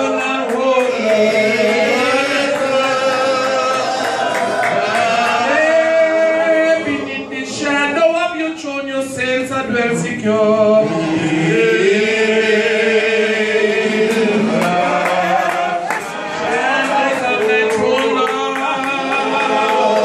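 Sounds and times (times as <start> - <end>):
man singing worship song: 0.0 - 20.0.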